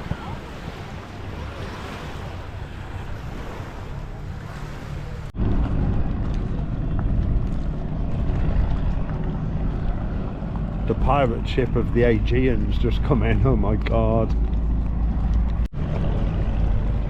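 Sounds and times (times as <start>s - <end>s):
boat engine rumbling: 0.0s - 17.0s
water noise: 0.0s - 17.0s
wind on microphone: 0.0s - 17.0s.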